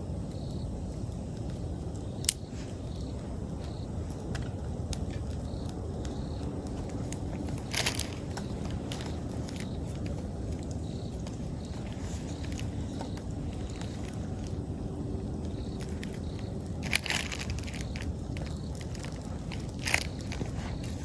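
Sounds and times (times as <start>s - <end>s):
campfire crackling and popping: 0.0s - 21.0s
insect chirping: 0.0s - 21.0s
low rumble: 0.0s - 21.0s.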